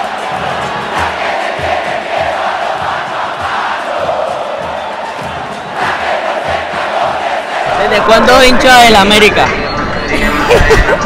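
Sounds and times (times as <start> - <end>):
stadium crowd chanting: 0.0 - 8.9
steady low beat: 0.0 - 9.5.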